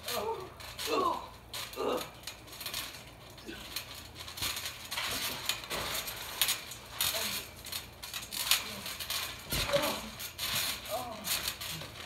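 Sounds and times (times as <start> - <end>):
trampoline springs jangling: 0.0 - 12.0
trampoline mat thudding: 0.1 - 12.0.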